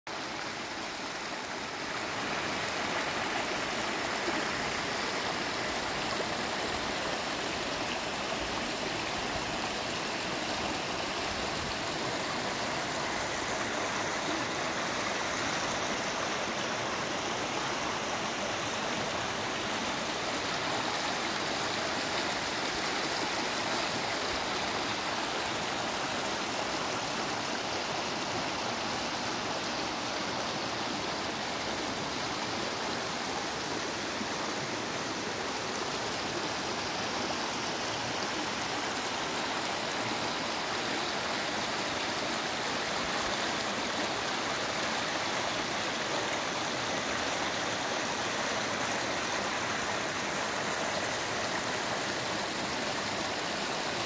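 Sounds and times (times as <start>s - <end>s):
stream rushing over stones: 0.1s - 54.0s.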